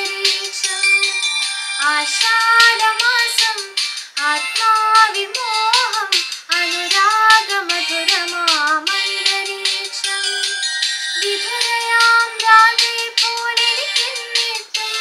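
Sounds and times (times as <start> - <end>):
girl singing into a microphone: 0.0 - 1.2, 1.8 - 10.6, 11.2 - 15.0.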